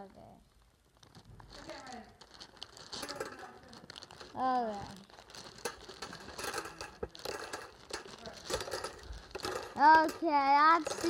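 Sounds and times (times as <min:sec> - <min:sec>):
plastic packaging crinkling: 0:00.5 - 0:11.0
plastic parts clicking: 0:01.8 - 0:11.0.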